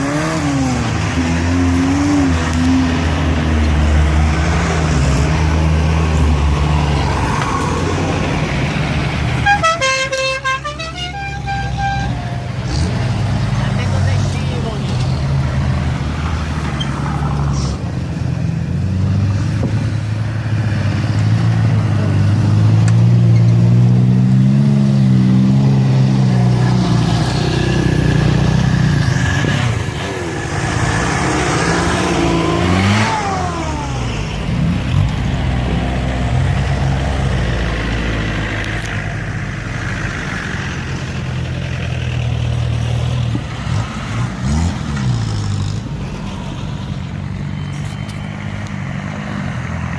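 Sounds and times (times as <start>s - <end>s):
engine revs: 0.0s - 9.6s, 11.4s - 17.9s, 18.6s - 49.9s
off-road vehicles driving past: 0.0s - 49.9s.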